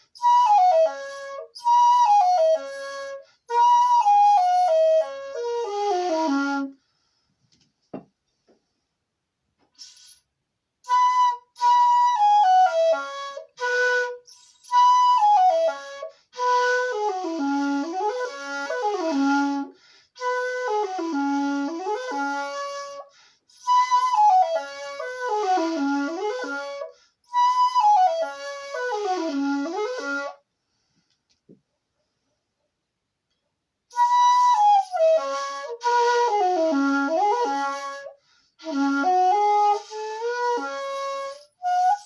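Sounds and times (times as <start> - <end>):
breathy bamboo flute melody: 0.0 - 7.3, 9.8 - 30.5, 33.9 - 42.0.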